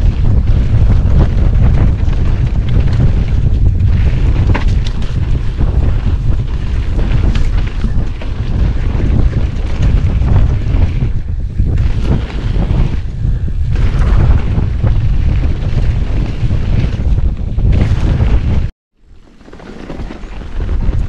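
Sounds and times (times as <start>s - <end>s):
wind buffeting microphone: 0.0s - 18.7s, 19.6s - 21.0s
bike knocks and rattles: 0.0s - 21.0s
tyre noise on dirt: 0.0s - 21.0s.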